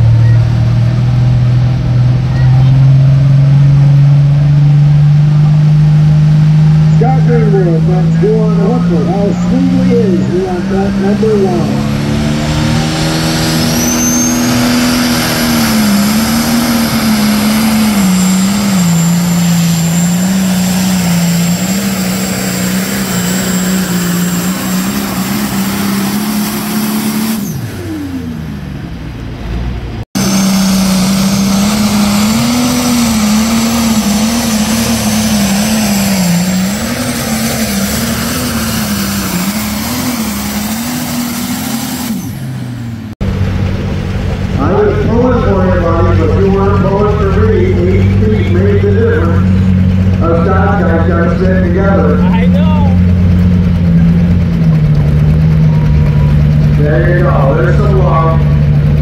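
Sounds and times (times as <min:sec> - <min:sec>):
tractor engine at full throttle: 0:00.0 - 0:59.0.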